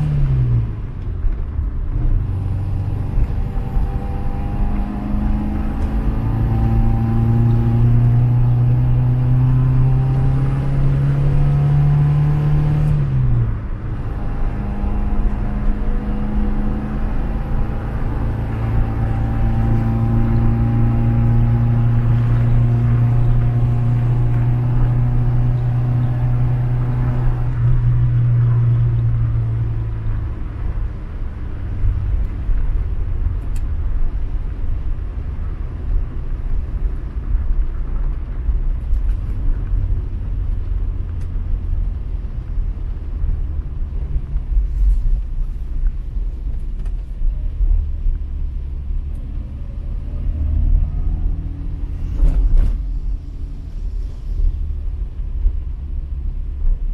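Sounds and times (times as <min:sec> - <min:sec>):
road noise: 0:00.0 - 0:56.9.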